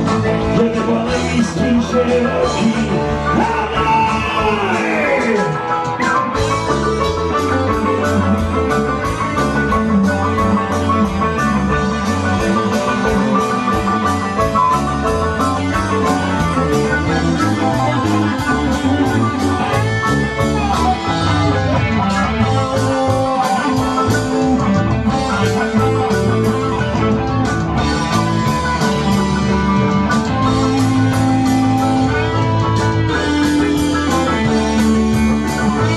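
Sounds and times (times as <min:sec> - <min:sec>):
live rock band playing: 0:00.0 - 0:35.9.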